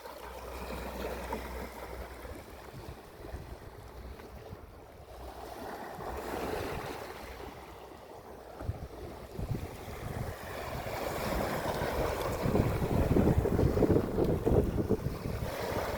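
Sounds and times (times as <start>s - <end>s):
ocean waves washing ashore: 0.0s - 15.9s
wind rumble on microphone: 2.0s - 15.9s.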